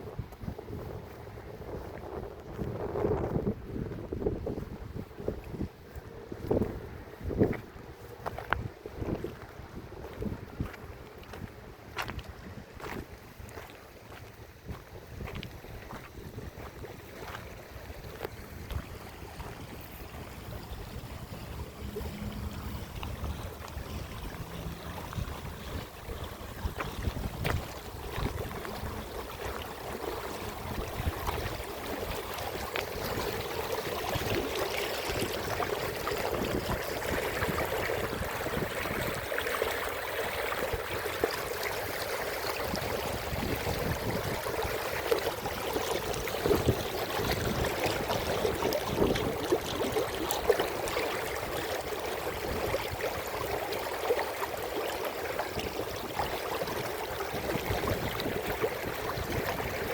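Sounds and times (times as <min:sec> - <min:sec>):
water flowing: 0:00.0 - 0:59.9.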